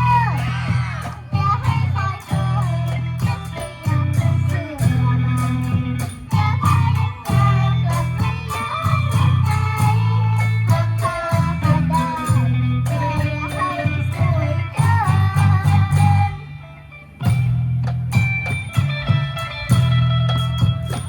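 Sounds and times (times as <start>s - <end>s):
heavy bass line: 0.0s - 21.0s
percussion: 0.0s - 21.0s
plucked string melody: 0.0s - 21.0s.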